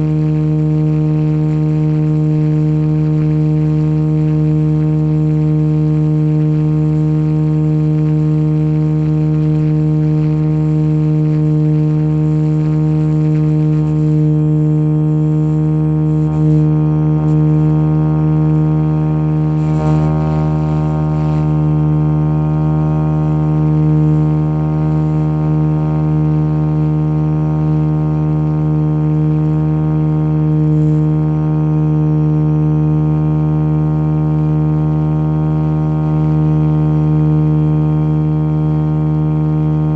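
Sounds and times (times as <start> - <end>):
model helicopter drone: 0.0 - 39.9.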